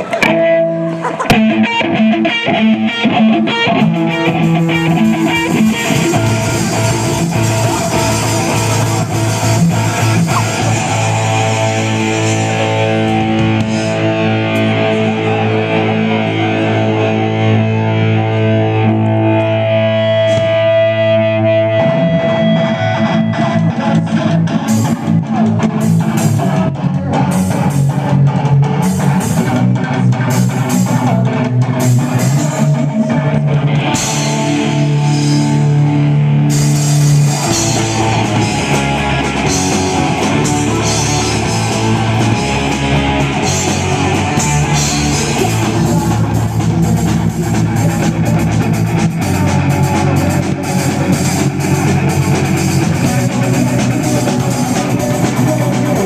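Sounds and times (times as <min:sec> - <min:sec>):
rock band with distorted guitar: 0:00.0 - 0:56.0.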